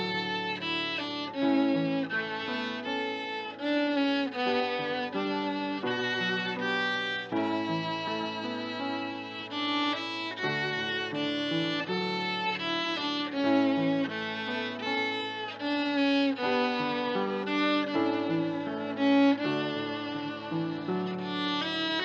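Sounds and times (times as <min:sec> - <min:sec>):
violin playing a melody: 0:00.0 - 0:22.0.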